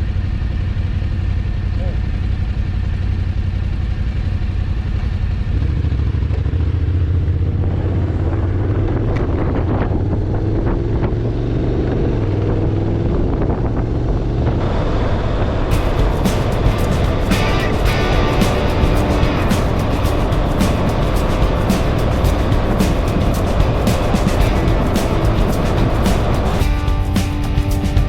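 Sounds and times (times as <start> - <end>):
motorcycle engine running: 0.0 - 14.5, 15.7 - 28.0
road and wind noise: 0.0 - 28.0.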